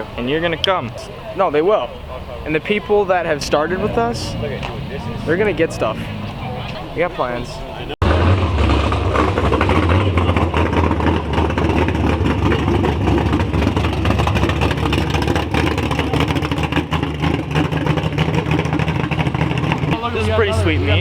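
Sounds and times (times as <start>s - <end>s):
car engine exhaust rumble: 0.0s - 21.0s.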